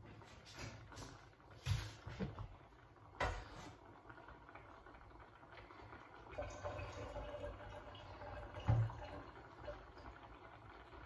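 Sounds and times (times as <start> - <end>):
cooking water draining: 0.0 - 11.0.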